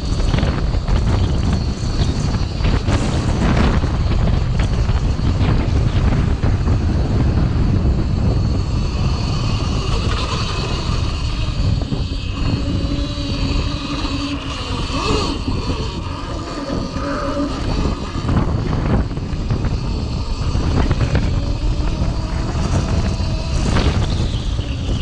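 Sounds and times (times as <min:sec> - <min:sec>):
electric motor whine: 0:00.0 - 0:25.0
low hum: 0:00.0 - 0:25.0
wind rumble on microphone: 0:00.0 - 0:25.0.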